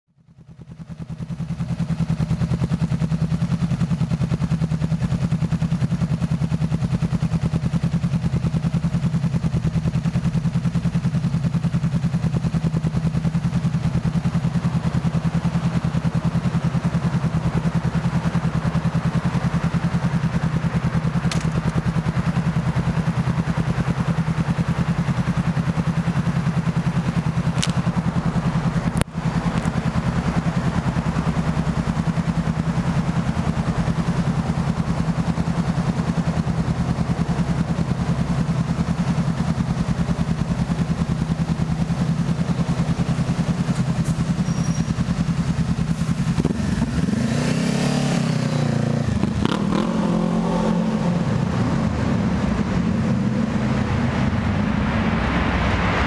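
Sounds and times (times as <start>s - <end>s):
motorcycle engine idling: 0.1s - 54.7s.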